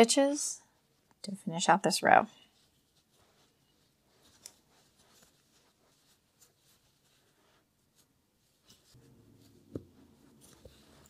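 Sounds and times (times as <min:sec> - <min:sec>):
crochet hook rustling yarn: 0:00.6 - 0:11.0.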